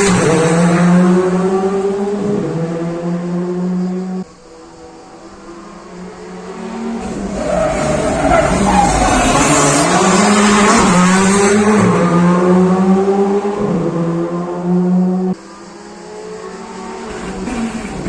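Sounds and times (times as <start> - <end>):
rally car passing at full speed: 0.0 - 18.0.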